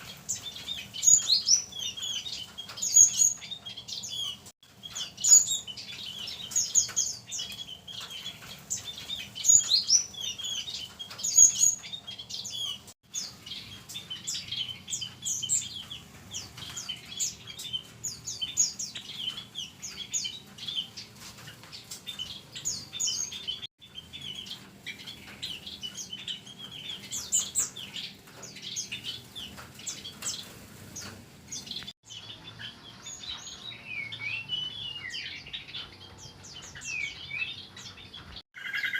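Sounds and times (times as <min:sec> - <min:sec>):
small songbirds chirping and twittering: 0:00.0 - 0:38.9.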